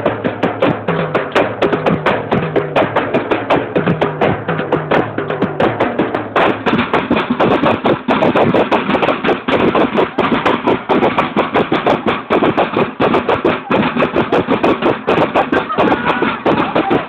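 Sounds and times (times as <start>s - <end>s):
marching snare drums: 0.0s - 17.0s.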